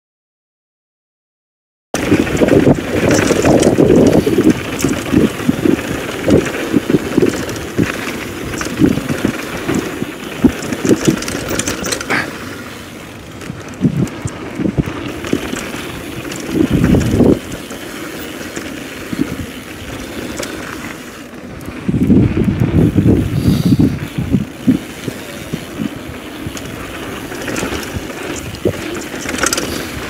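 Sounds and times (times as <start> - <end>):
wind buffeting microphone: 2.0 - 12.2, 13.2 - 30.0
bike knocking and rattling: 2.0 - 30.0
tyres on gravel trail: 2.0 - 30.0.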